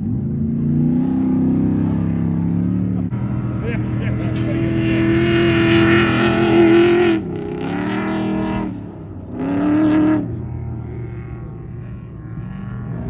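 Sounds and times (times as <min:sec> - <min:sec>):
race truck engine at full throttle: 0:00.0 - 0:13.0.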